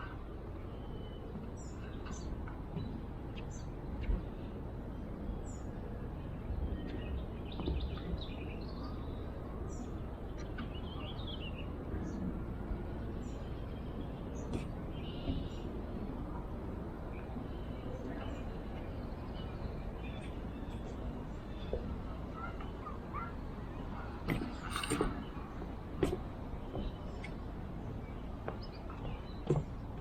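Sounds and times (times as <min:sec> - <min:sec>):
songbirds chirping: 0:00.1 - 0:30.0.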